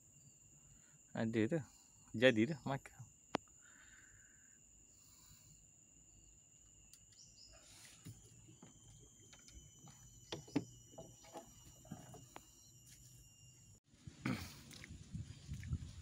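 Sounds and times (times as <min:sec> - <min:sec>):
high-pitched insect drone: 0:00.0 - 0:13.8.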